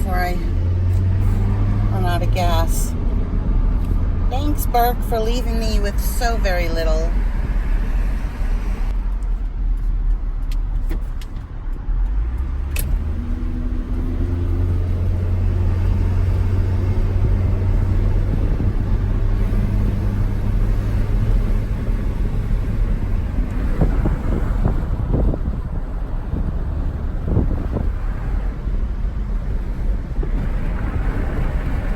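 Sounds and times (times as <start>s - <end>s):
truck engine and road rumble: 0.0s - 31.9s.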